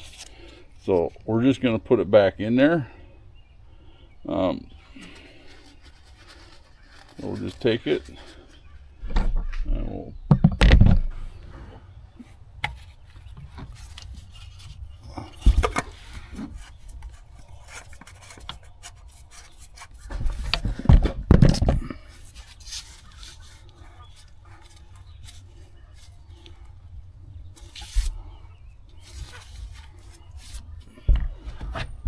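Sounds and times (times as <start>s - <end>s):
hands rubbing plastic filter housing: 0.0s - 1.2s, 4.7s - 8.9s, 11.2s - 26.8s, 27.4s - 32.0s.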